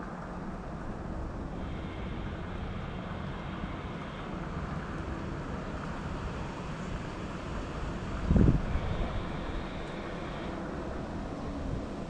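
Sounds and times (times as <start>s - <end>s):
distant engine rumble: 0.0s - 12.0s.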